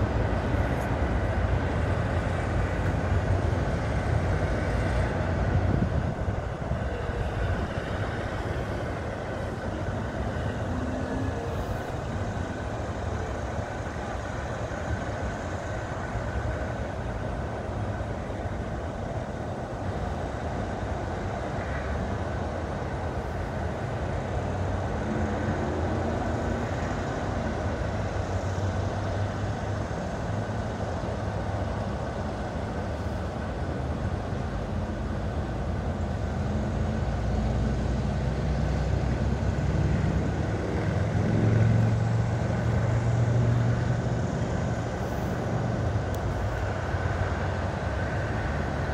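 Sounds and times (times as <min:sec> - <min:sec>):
highway traffic passing: 0:00.0 - 0:48.9.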